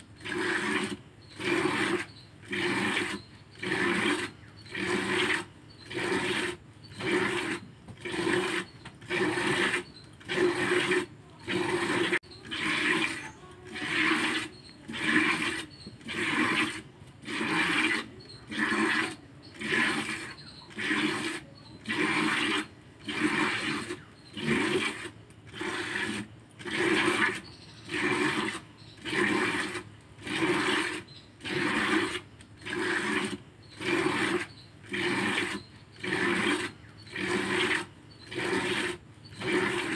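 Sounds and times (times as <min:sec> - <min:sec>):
milk squirting into bucket: 0:00.1 - 0:39.9.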